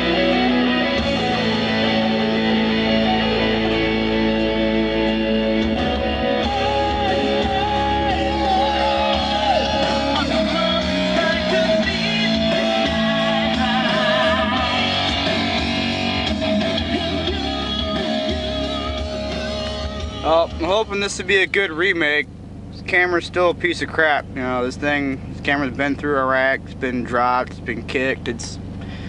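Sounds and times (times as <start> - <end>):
rock music through car speakers: 0.0 - 29.0.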